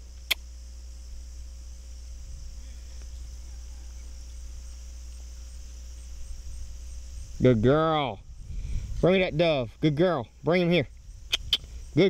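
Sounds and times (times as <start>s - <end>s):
high-pitched insect chorus: 0.0s - 12.0s
low steady rumble: 0.0s - 12.0s.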